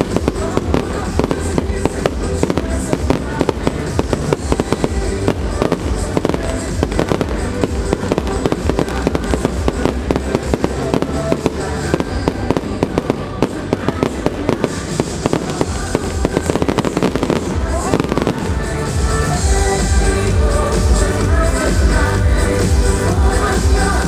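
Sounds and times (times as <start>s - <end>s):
fireworks bangs: 0.0s - 19.5s
fireworks crackling: 0.0s - 24.0s
music: 0.0s - 24.0s.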